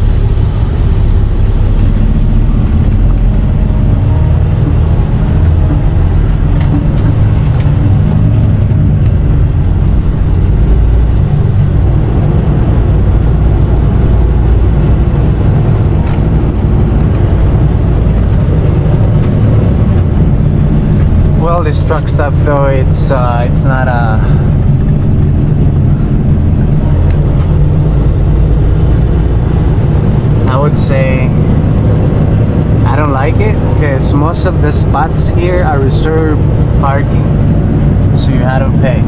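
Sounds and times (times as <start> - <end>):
diesel engine low rumble: 0.0 - 39.0.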